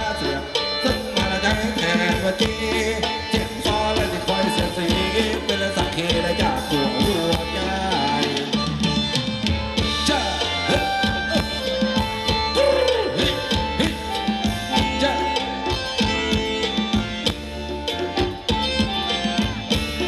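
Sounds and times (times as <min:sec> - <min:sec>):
drums and percussion beat: 0:00.0 - 0:20.0
live dance band music: 0:00.0 - 0:20.0.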